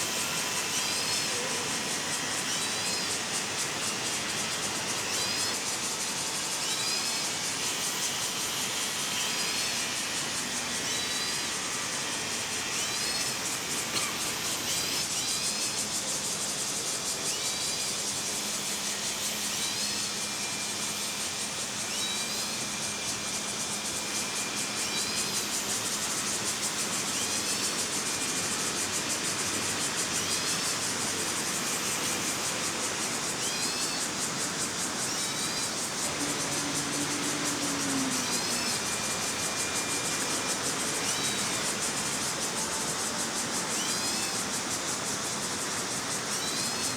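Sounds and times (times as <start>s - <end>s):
shrill insect chorus: 0.0s - 46.9s.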